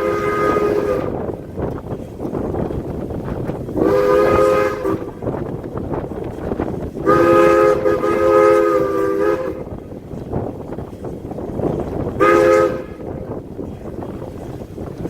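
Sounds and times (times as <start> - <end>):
train noise: 0.0 - 15.0
wind: 0.0 - 15.0.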